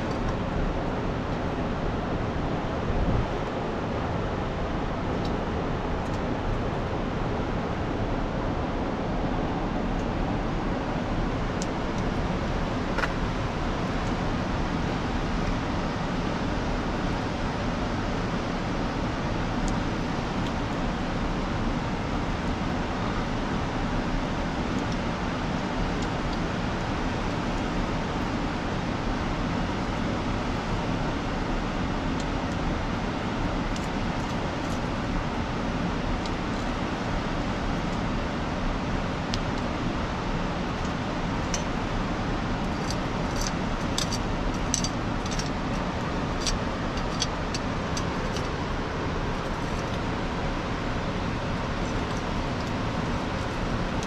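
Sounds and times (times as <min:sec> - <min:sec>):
steady rushing noise: 0:00.0 - 0:54.0.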